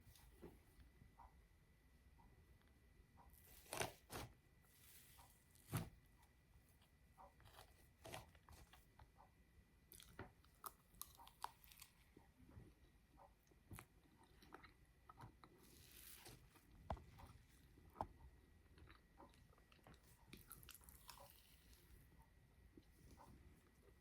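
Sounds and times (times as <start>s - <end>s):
crackles and clicks of handling food: 2.1s - 24.0s.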